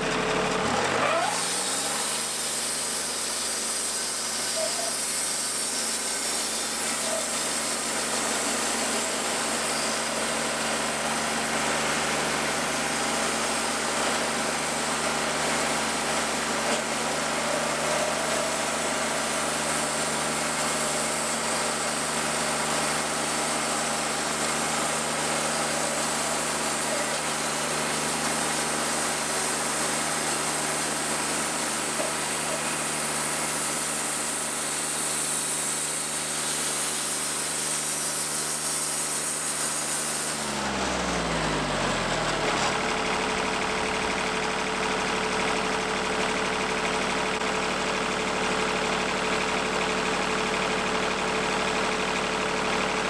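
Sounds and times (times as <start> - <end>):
band sawmill cutting log: 0.0 - 53.0.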